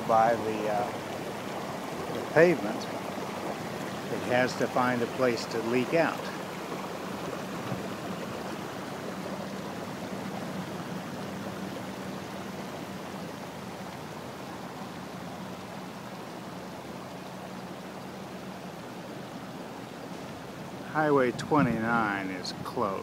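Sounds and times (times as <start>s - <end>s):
rushing floodwater: 0.0s - 23.0s.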